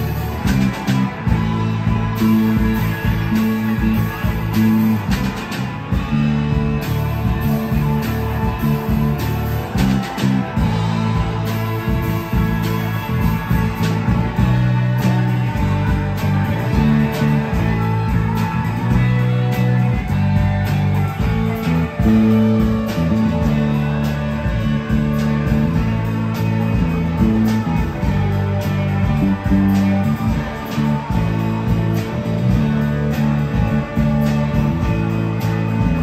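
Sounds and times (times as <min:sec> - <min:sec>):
drum kit beat: 0:00.0 - 0:36.0
electric bass: 0:00.0 - 0:36.0
electric guitars: 0:00.0 - 0:36.0.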